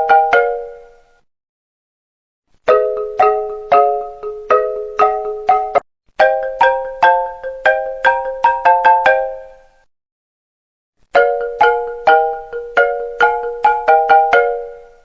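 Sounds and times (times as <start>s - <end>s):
marimba ringtone melody: 0.0s - 1.0s, 2.6s - 9.9s, 11.1s - 15.0s.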